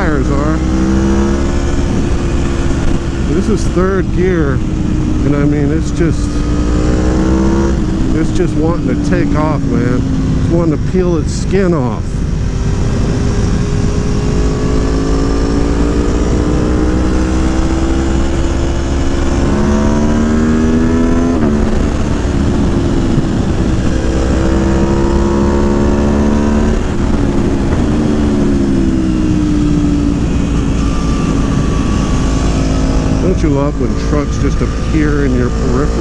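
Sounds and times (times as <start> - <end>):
motorcycle engine accelerating: 0.0 - 36.0
wind rumble: 0.0 - 36.0.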